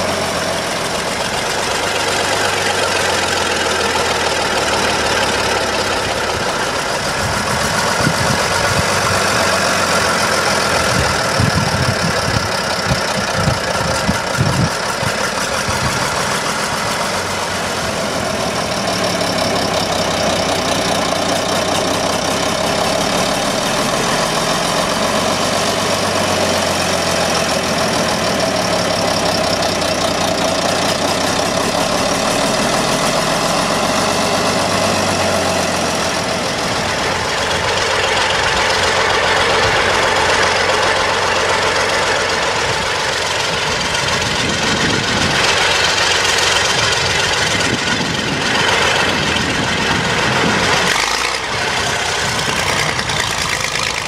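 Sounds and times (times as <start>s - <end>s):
diesel crawler tractor engine: 0.0s - 54.0s.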